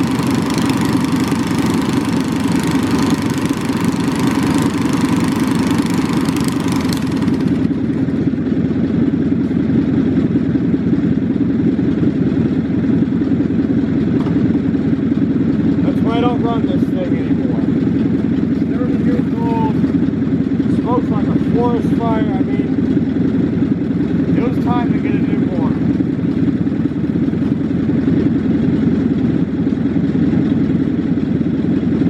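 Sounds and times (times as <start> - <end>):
lawn mower engine idling: 0.0 - 32.0.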